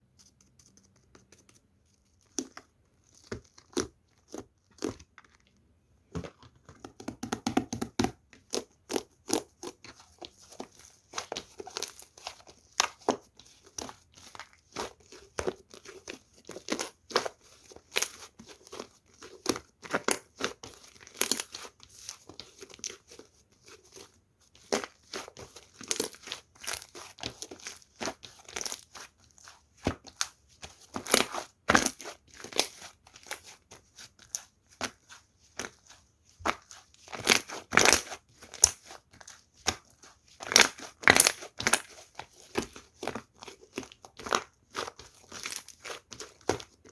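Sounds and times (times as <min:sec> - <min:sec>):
hands squishing slime: 0:00.0 - 0:46.9.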